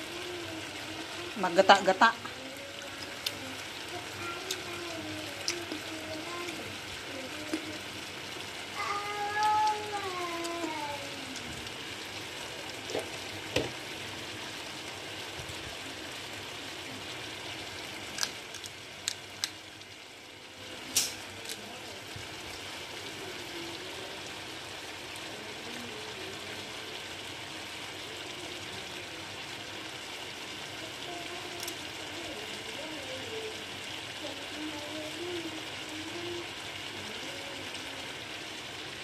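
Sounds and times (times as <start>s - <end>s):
peanuts sizzling in a frying pan: 0.0s - 39.0s.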